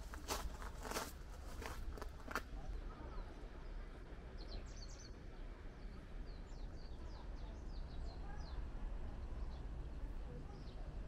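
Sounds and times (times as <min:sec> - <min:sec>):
low outdoor background noise: 0:00.0 - 0:11.0
songbirds chirping: 0:00.0 - 0:11.0.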